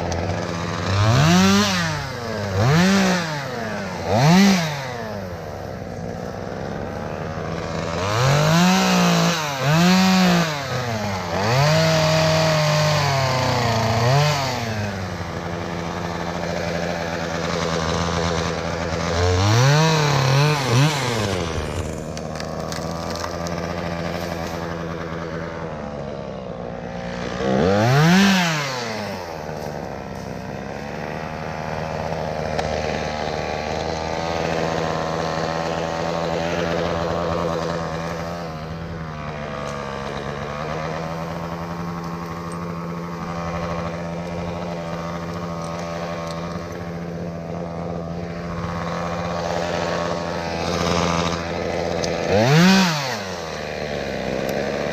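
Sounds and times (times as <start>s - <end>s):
chainsaw running: 0.0s - 54.9s.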